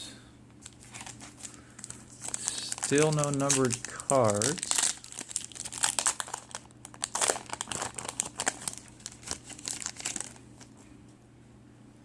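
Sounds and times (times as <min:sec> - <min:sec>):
wrapper crinkling: 0:00.6 - 0:10.7.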